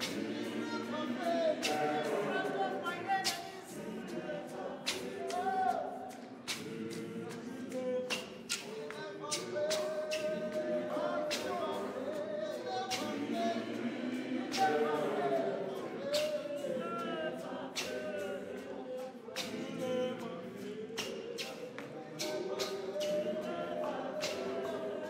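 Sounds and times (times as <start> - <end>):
women's choir singing a cappella: 0.0 - 25.0.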